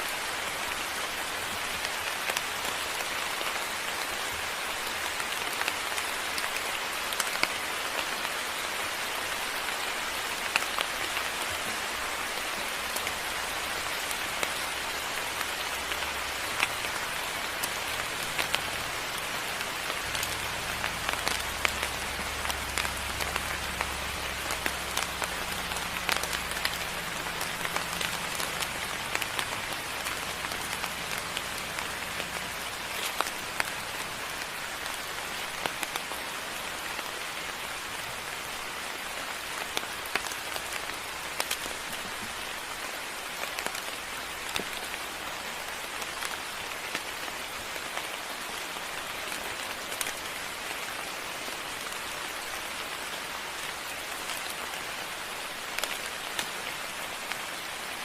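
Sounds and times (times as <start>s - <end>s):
moderate rain falling: 0.0s - 58.0s.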